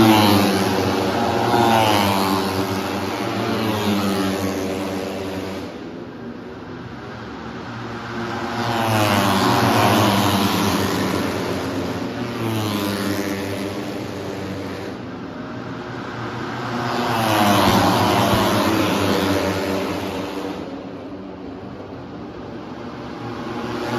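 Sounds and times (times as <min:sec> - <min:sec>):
motorcycles passing at speed: 0:00.0 - 0:23.9.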